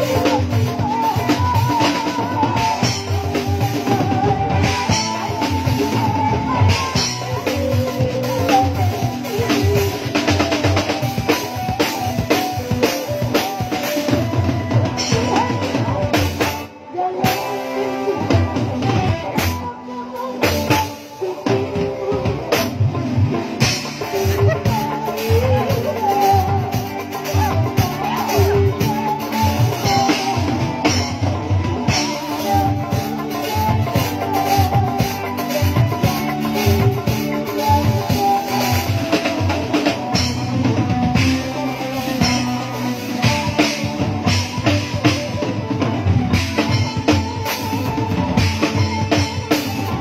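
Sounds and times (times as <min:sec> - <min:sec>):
drum kit beat: 0:00.0 - 0:50.0.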